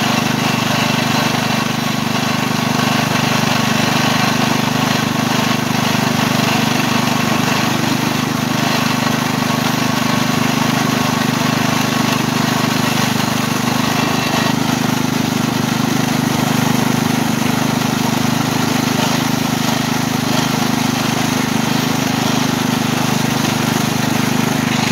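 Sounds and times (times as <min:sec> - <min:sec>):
small locomotive engine running: 0:00.0 - 0:24.9.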